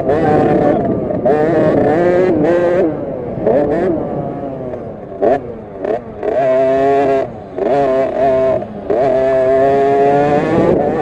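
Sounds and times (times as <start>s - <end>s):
two-stroke minibike engine revving: 0.0s - 11.0s.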